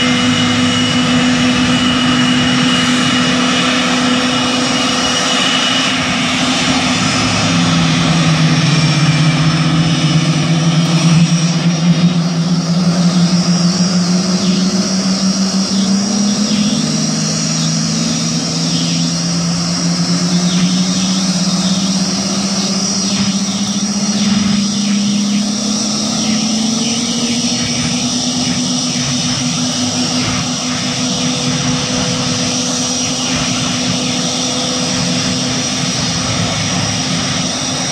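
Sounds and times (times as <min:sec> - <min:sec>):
jet engines whining: 0:00.0 - 0:37.9.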